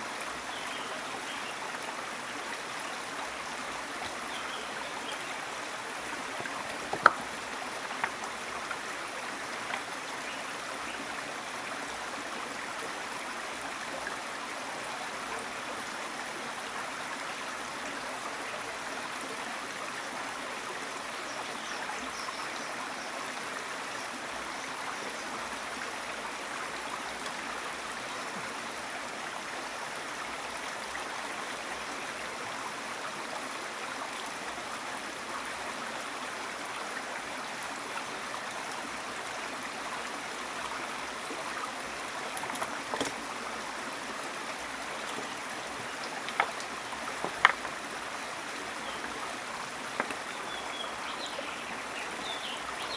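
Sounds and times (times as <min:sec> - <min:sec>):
river water rushing: 0:00.0 - 0:22.7, 0:25.2 - 0:52.9.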